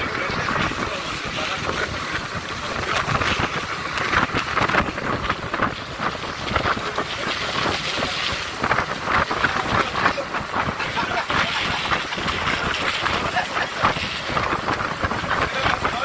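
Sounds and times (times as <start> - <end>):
microphone crackling: 0.0 - 16.0
wind rushing: 0.0 - 16.0.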